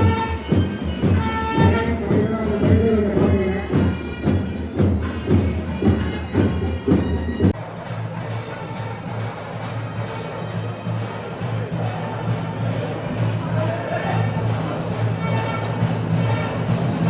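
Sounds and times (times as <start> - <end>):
steady drum beat: 0.0 - 17.0
wind instrument held notes: 0.0 - 17.0.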